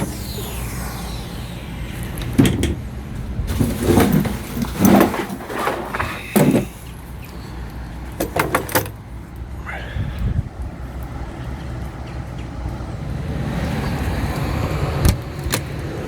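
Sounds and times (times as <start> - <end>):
vehicle rumble: 0.0 - 16.0.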